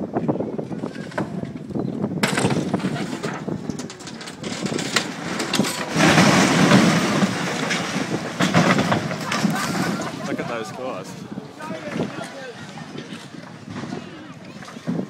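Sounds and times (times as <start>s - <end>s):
masonry crashing and crumbling: 0.8s - 15.0s.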